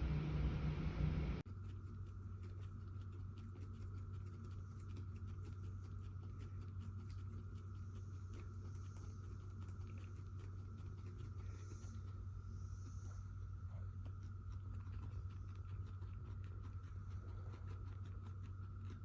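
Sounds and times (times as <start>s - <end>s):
guinea pigs scratching: 0.0s - 19.0s
steady low hum: 0.0s - 19.0s.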